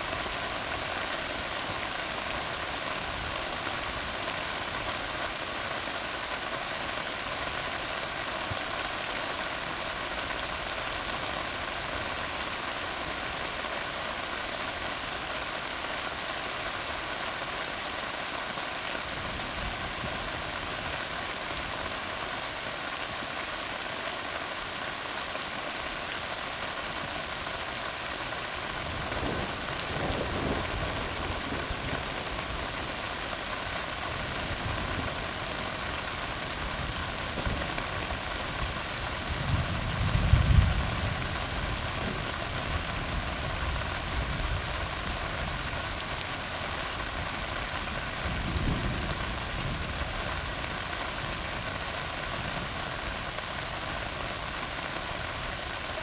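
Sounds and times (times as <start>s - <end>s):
rain falling on a road: 0.0s - 56.0s.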